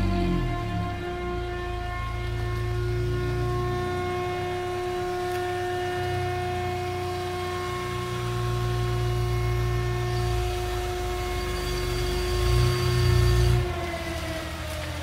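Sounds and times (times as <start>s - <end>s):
low rumble: 0.0s - 13.5s
air-raid siren steady tone: 0.0s - 15.0s.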